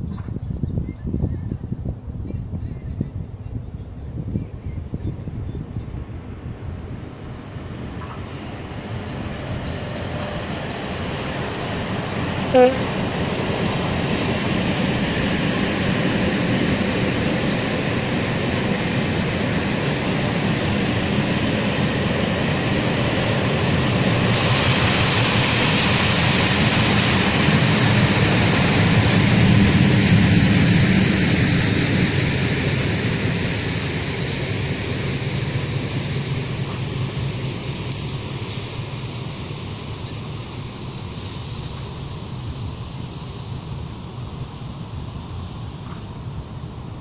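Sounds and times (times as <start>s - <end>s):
freight train wheels rumbling on rails: 0.0s - 47.0s.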